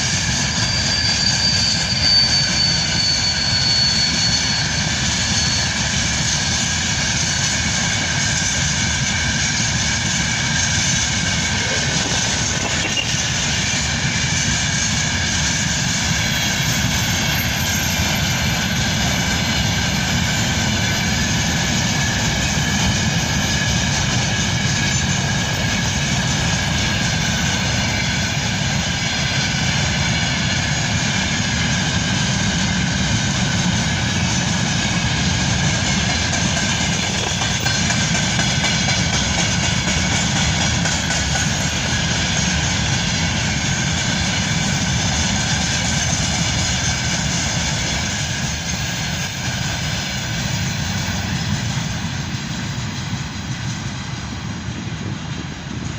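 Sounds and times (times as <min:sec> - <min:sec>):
electric locomotive rumble: 0:00.0 - 0:55.9.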